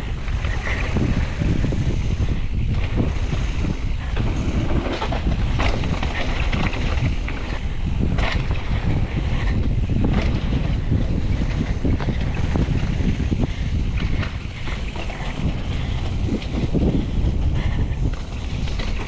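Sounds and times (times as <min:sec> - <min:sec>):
bike knocks and rattles: 0:00.0 - 0:19.0
wind buffeting microphone: 0:00.0 - 0:19.0.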